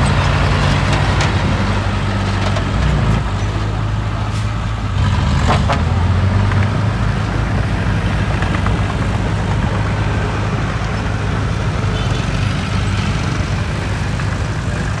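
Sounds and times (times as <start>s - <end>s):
heavy machinery engine running: 0.0s - 15.0s.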